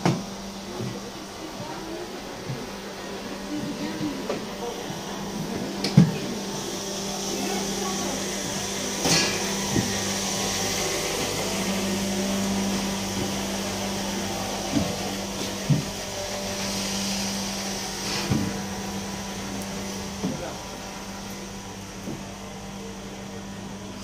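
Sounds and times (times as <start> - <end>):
motor hum with hiss: 0.0 - 24.0.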